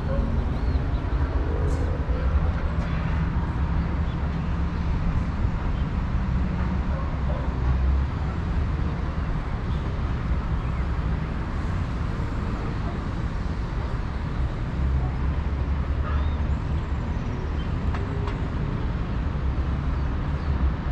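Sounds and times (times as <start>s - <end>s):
city traffic noise: 0.0s - 20.9s.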